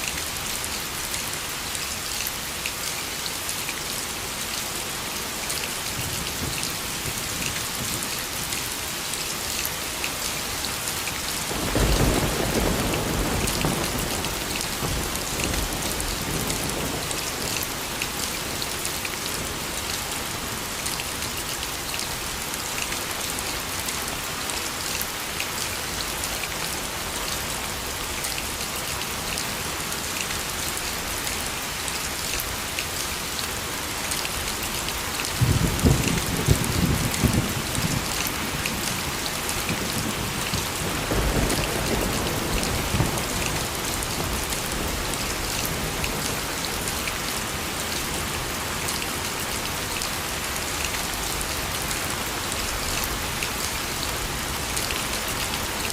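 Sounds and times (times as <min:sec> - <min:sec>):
rain drops pattering: 0:00.0 - 0:55.9.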